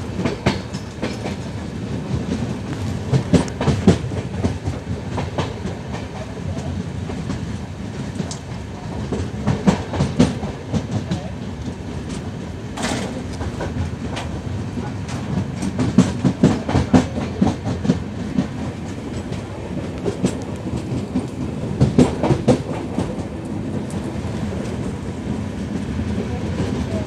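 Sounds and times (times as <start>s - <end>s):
train wheels rumbling: 0.0s - 27.0s
wheels clicking over rail joints: 0.2s - 6.7s, 8.1s - 25.0s.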